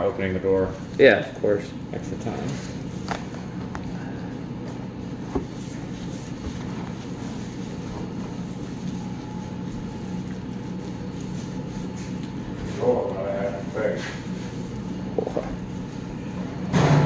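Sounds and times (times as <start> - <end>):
kitchen equipment humming: 0.0 - 17.0.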